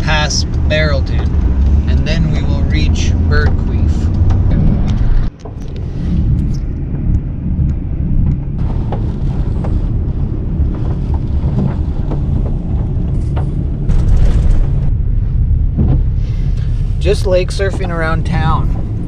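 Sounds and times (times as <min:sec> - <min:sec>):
vehicle road and engine rumble: 0:00.0 - 0:19.0.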